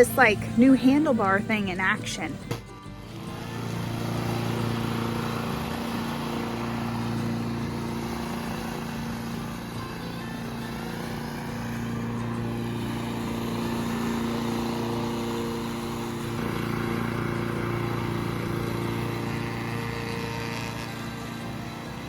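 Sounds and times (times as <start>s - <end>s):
push mower engine mowing: 0.0s - 22.0s.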